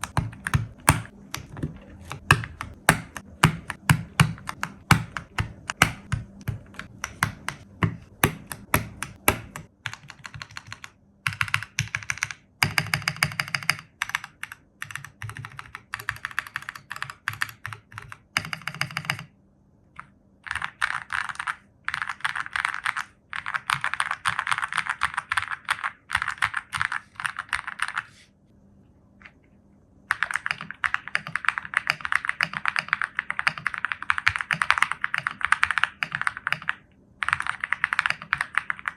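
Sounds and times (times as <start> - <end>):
mechanical keyboard typing: 0.0 - 19.3, 20.0 - 28.1, 30.1 - 38.9.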